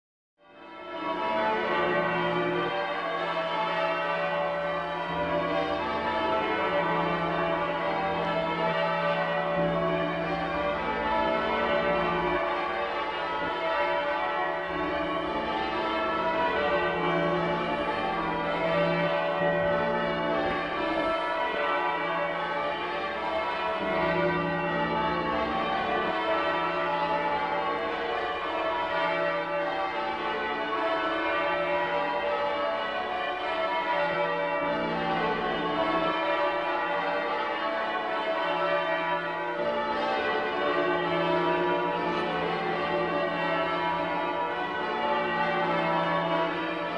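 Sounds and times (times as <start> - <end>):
church bells ringing: 0.5 - 46.9.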